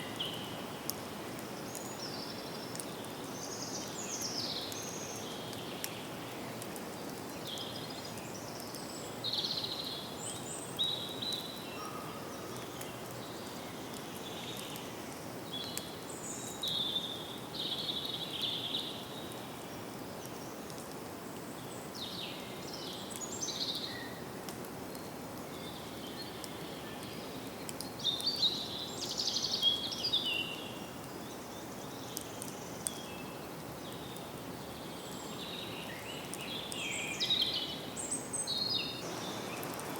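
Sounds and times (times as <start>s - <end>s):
steady background hiss: 0.0s - 39.9s
songbirds calling and singing: 1.4s - 20.8s, 21.6s - 24.2s, 25.4s - 39.9s.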